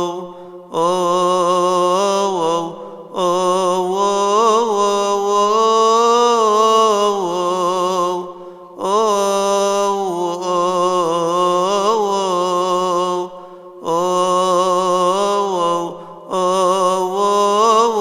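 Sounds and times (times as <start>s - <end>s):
man chanting a hymn: 0.0s - 18.0s.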